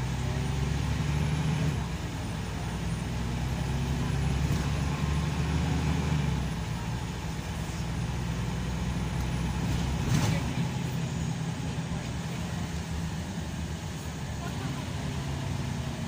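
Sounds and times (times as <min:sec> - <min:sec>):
coach engine drone: 0:00.0 - 0:16.0
tyre and road noise: 0:00.0 - 0:16.0.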